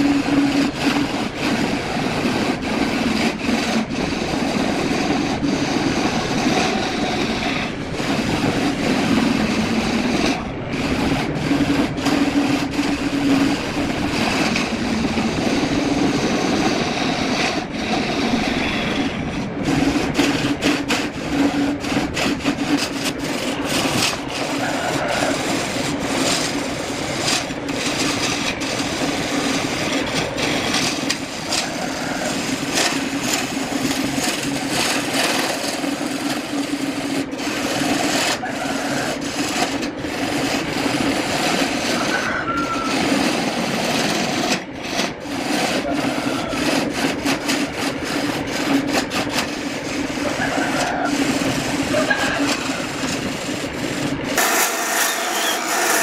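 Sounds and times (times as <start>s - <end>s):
tool scraping spinning wood: 0.0s - 56.0s
wood lathe humming: 0.0s - 56.0s.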